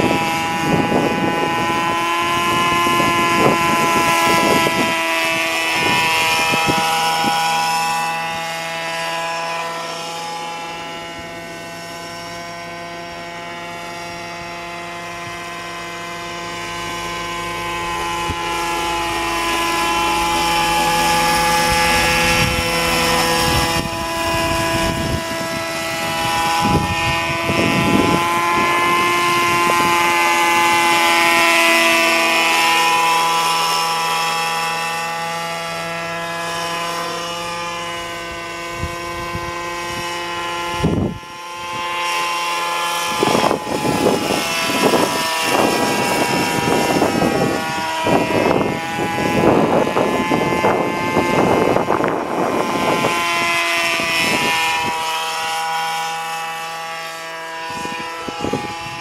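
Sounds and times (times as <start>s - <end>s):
model helicopter engine buzz: 0.0s - 59.0s
rotor hum: 0.0s - 59.0s.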